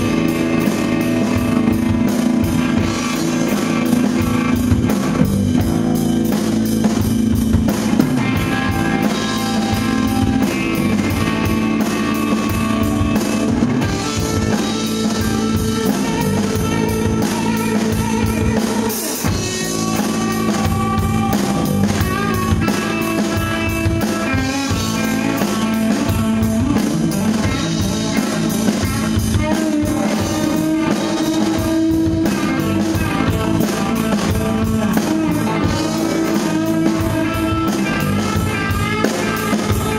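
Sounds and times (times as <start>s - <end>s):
bass guitar: 0.0s - 39.9s
distorted electric guitars: 0.0s - 39.9s
drum kit beat: 0.0s - 39.9s.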